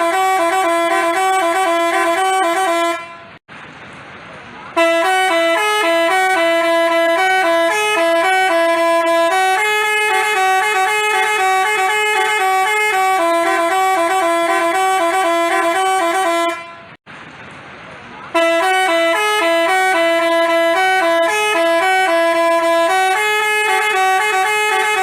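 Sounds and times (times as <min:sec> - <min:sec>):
musical bus horn playing a tune: 0:00.0 - 0:03.4, 0:04.8 - 0:17.0, 0:18.3 - 0:25.0.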